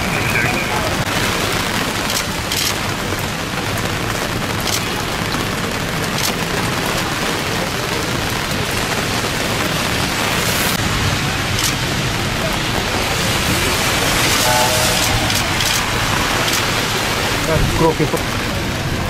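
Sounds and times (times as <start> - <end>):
rain falling on wet street: 0.0 - 19.0.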